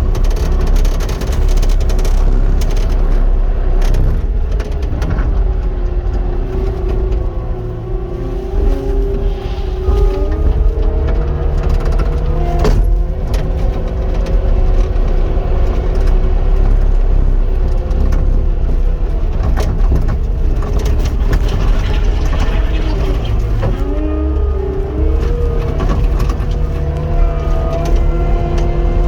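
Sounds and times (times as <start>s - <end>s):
diesel engine running: 0.0s - 29.0s
mechanical whine: 0.0s - 29.0s.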